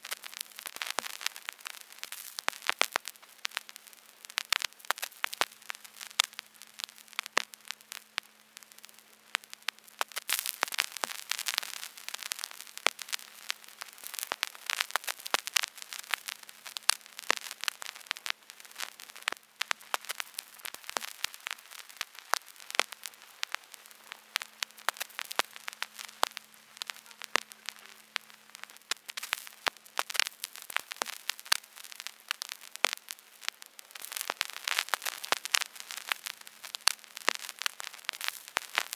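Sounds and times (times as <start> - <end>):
soft hiss: 0.0 - 38.9
vinyl crackles and pops: 0.0 - 38.9.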